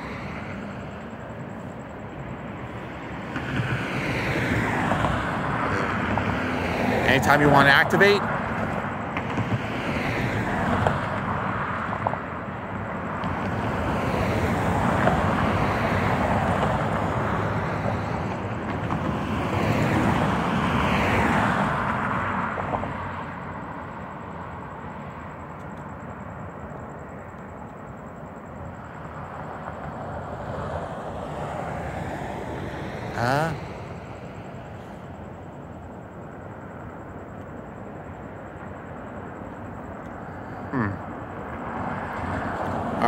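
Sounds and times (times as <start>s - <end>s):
cars passing: 0.0s - 43.0s.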